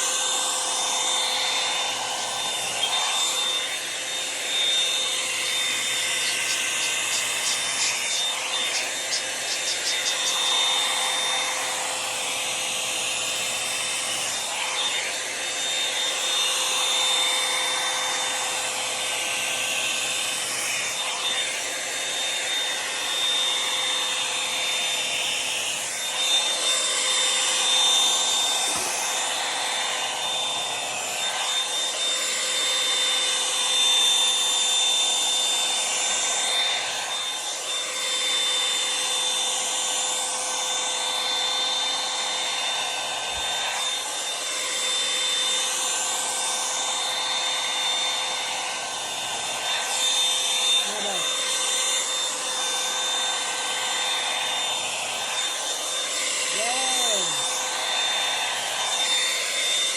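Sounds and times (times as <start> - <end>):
hot-air brush dryer whooshing: 0.0 - 59.9.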